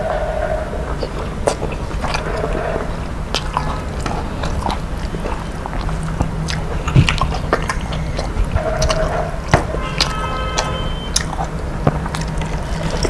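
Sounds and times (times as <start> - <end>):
mouth clicks: 0.0 - 13.0
person chewing food: 0.0 - 13.0
steady low hum: 0.0 - 13.0.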